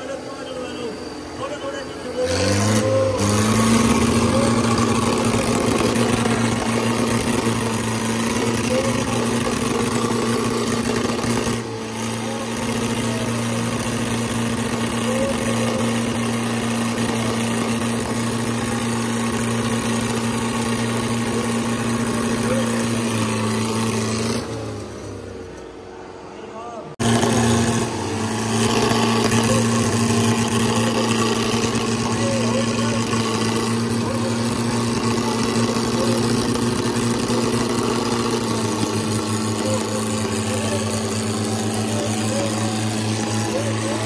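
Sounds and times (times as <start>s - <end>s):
diesel tractor engines at full throttle: 0.0s - 44.0s.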